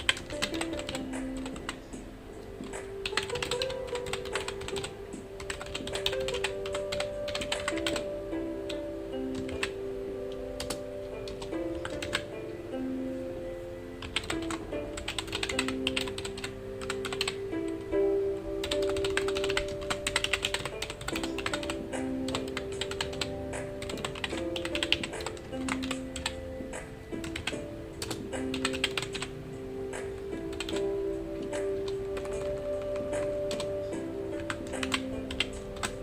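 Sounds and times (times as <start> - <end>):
keyboard typing clicks: 0.0 - 2.0, 2.6 - 8.1, 8.7 - 12.3, 14.0 - 17.8, 18.6 - 29.3, 29.9 - 33.8, 34.4 - 36.0
soft background music: 0.0 - 36.0.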